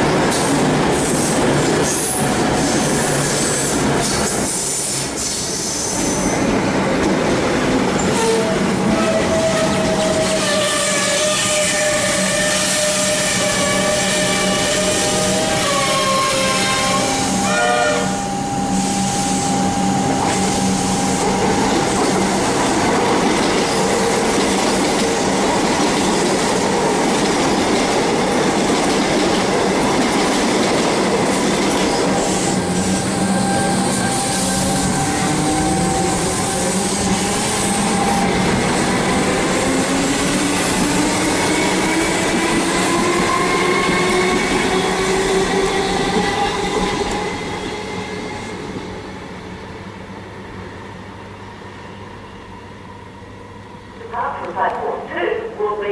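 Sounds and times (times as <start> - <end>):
train wheels rumbling on rail: 0.0 - 52.1.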